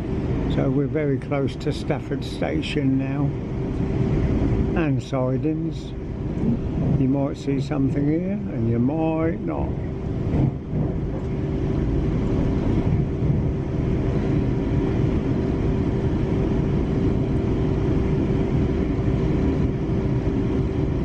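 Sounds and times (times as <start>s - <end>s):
steady hum: 0.0s - 21.0s
train running noise inside carriage: 0.0s - 21.0s.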